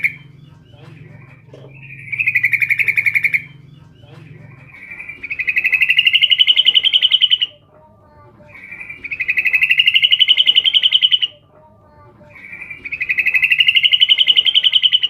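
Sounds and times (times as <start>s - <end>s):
bulbul chattering trill: 0.0s - 15.0s.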